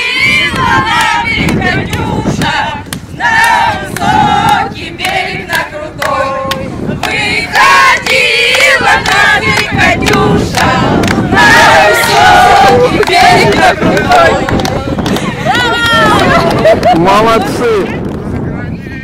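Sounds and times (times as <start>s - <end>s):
group singing unaccompanied: 0.0s - 16.5s.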